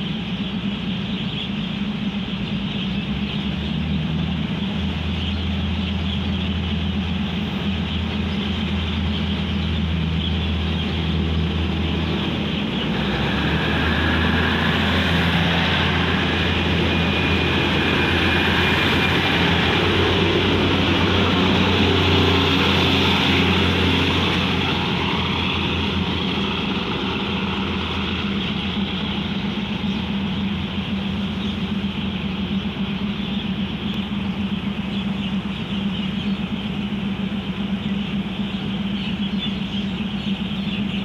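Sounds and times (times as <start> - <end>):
diesel train pulling out: 0.0 - 41.0
steady diesel drone with hiss: 0.0 - 41.0.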